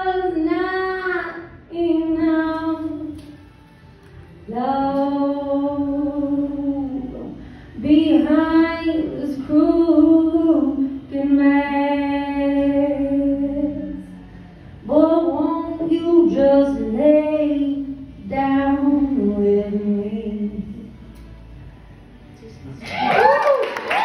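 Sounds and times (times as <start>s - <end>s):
woman singing a cappella: 0.0s - 3.4s, 4.5s - 14.2s, 14.8s - 21.0s.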